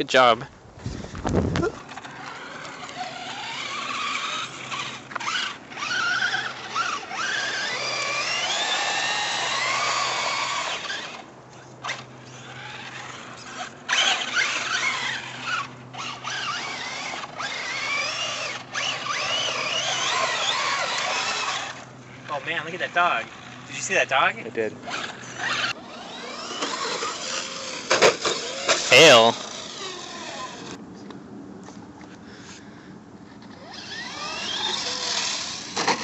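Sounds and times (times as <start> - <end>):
rc truck electric motor whining: 0.8 - 30.8, 33.4 - 36.0.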